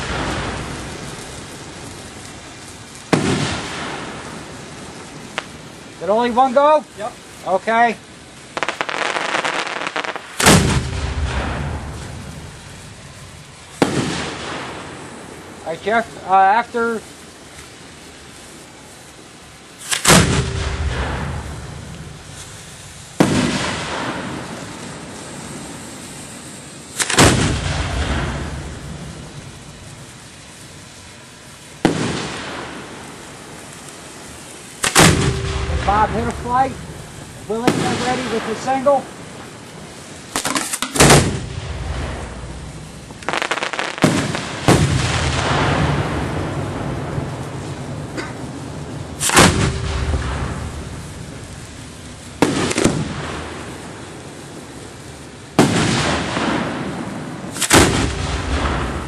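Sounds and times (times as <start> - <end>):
lingering rumble: 0.0 - 8.8, 10.2 - 59.0
fireworks booming: 0.0 - 59.0.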